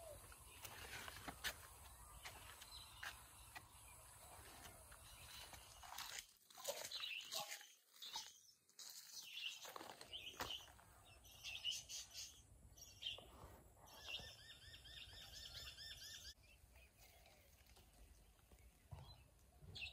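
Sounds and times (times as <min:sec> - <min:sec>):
songbirds chirping faintly: 0:00.0 - 0:19.9.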